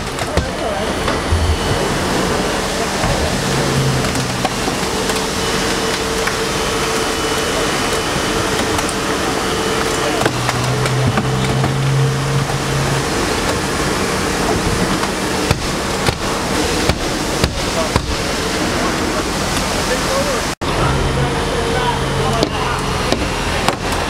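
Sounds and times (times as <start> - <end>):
low engine-like machine hum: 0.0 - 24.0.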